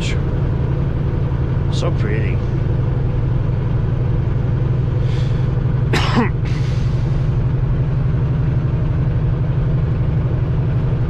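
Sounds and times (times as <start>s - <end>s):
truck engine and tyres droning: 0.0s - 11.0s.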